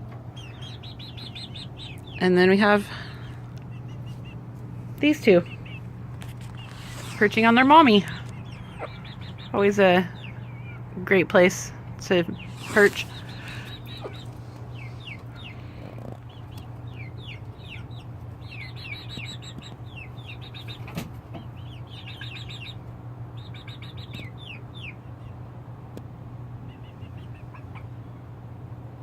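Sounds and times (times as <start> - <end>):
chicks peeping: 0.0 - 25.5, 26.5 - 28.4
steady low hum: 0.0 - 29.0.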